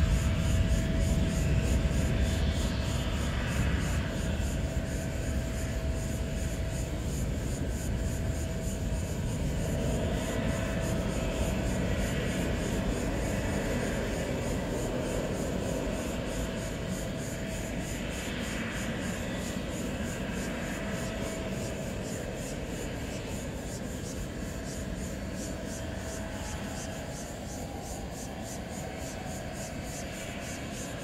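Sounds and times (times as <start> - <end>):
faint jet engine whine: 0.0 - 31.0
jet engines rumbling: 0.0 - 31.0.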